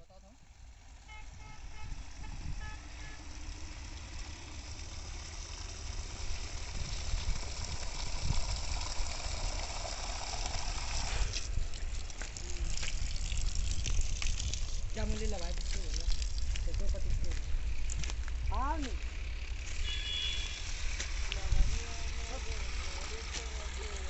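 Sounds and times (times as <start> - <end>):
vehicle engine running: 0.0 - 24.0
heavy uneven low rumble: 4.0 - 24.0.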